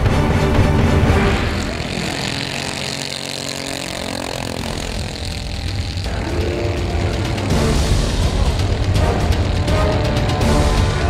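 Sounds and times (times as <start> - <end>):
go-kart engines passing: 0.0 - 11.0.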